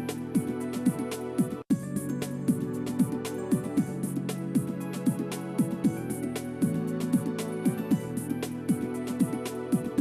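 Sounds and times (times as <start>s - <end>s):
music with steady beat and bass: 0.0s - 10.0s.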